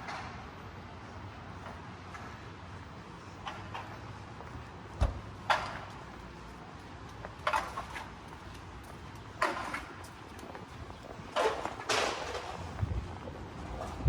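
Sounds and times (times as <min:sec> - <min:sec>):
city street ambience: 0:00.0 - 0:14.0.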